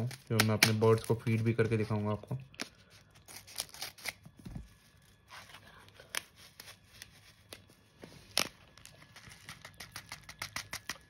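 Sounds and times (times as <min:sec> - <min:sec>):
packet crinkling and rustling: 0:00.0 - 0:11.0.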